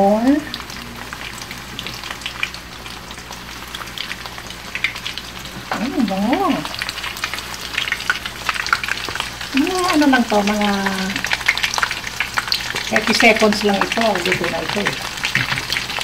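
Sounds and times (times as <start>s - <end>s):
beef deep-frying in hot oil: 0.0s - 16.0s.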